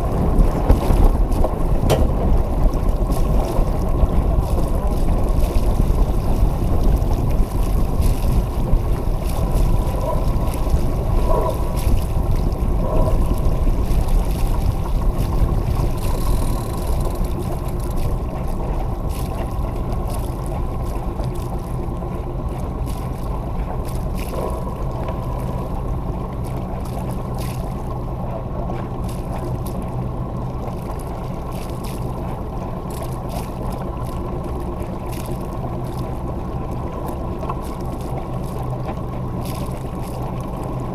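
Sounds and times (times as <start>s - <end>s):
water rushing along a hull: 0.0s - 40.9s
wind rumbling on microphone: 0.0s - 40.9s.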